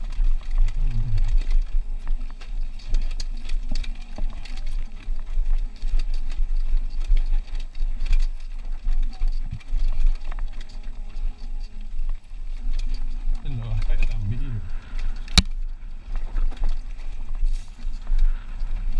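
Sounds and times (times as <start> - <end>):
wind rumble on camera: 0.0 - 18.9.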